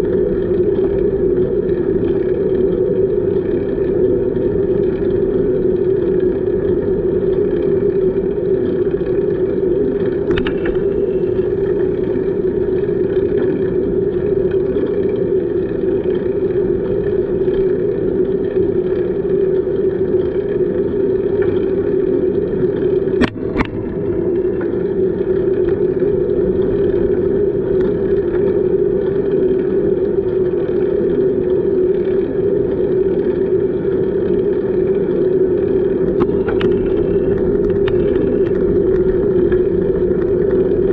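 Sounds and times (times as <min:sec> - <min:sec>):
wind and bicycle tyre noise: 0:00.0 - 0:40.9.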